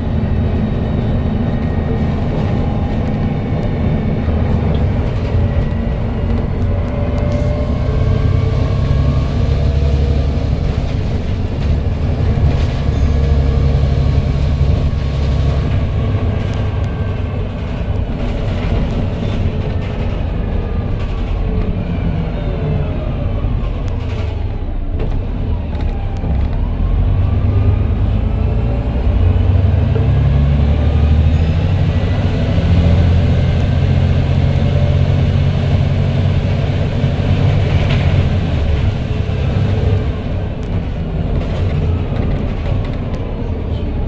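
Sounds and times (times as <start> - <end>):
bus diesel engine rumbling: 0.0 - 44.0
engine whine: 0.0 - 44.0.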